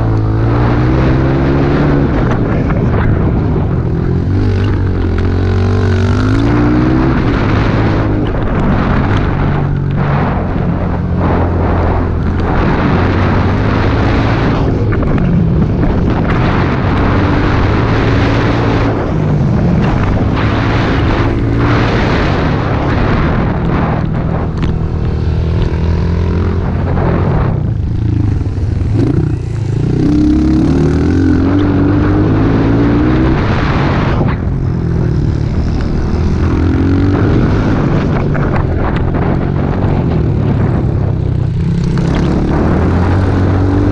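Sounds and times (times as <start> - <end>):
pit bike engine revving: 0.0 - 14.6, 15.9 - 40.8.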